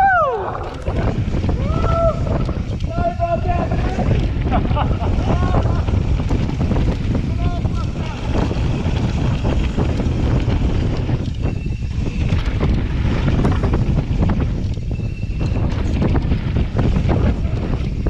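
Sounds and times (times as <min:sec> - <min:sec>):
bike tyre noise on dirt: 0:00.0 - 0:18.0
wind buffeting microphone: 0:00.0 - 0:18.0
bike knocks and rattles: 0:00.6 - 0:18.0.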